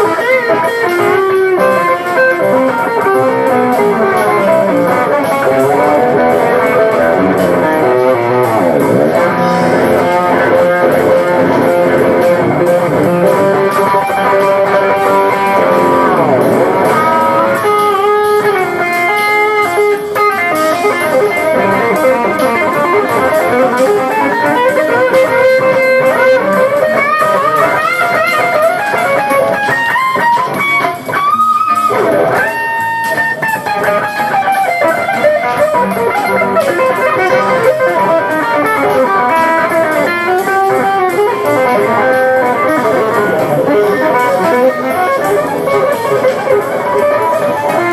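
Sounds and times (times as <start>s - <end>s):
bass guitar: 0.0s - 47.9s
electric guitar melody: 0.0s - 47.9s.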